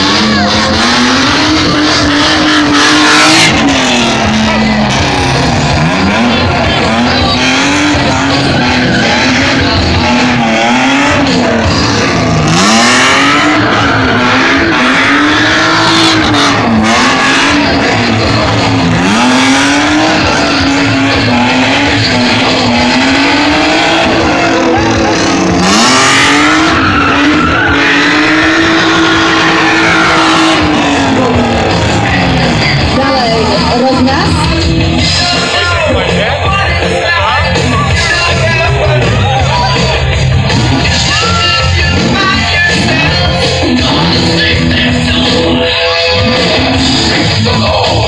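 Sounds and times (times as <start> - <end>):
car engine revving hard: 0.0 - 48.0
tyres skidding: 0.0 - 48.0.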